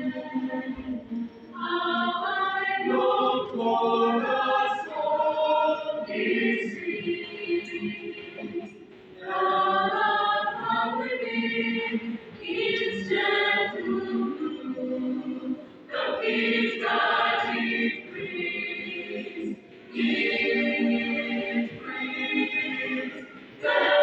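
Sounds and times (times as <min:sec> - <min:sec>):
church choir singing: 0:00.0 - 0:24.0.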